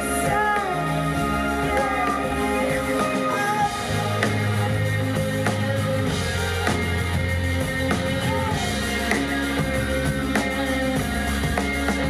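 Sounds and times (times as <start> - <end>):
bass line: 0.0 - 12.0
drum kit: 0.0 - 12.0
electric guitar: 0.0 - 12.0.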